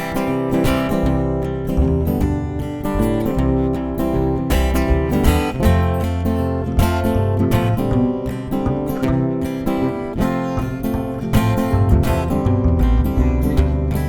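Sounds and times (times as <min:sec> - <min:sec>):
acoustic guitar strumming: 0:00.0 - 0:14.0
low bass notes: 0:00.0 - 0:14.0.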